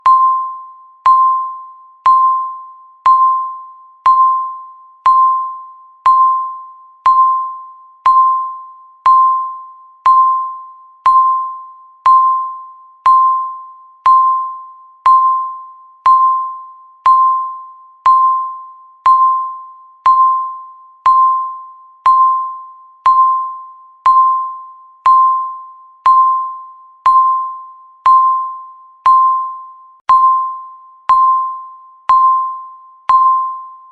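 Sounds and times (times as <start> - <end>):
countdown timer beep: 0.0 - 33.9.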